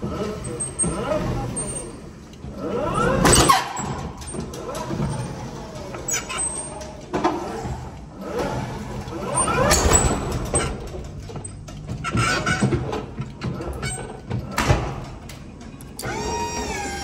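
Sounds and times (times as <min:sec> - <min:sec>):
forklift engine revving: 0:00.0 - 0:15.0
knocks and clatter: 0:02.4 - 0:16.2.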